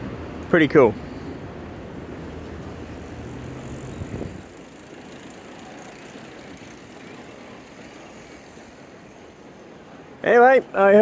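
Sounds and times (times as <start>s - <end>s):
passing vehicle rumble: 0.0s - 9.4s.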